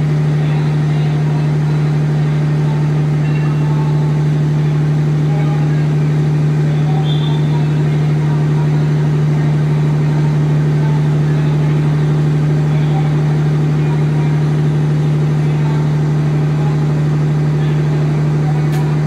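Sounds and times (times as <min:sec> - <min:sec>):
diesel train idling hum: 0:00.0 - 0:19.0.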